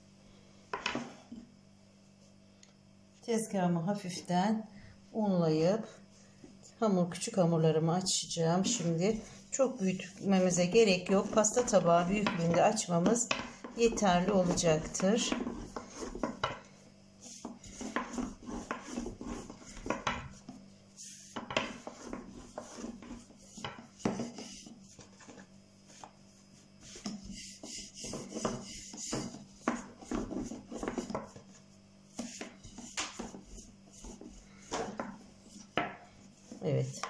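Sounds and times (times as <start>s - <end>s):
rolling pin rubbing dough: 5.4s - 37.0s.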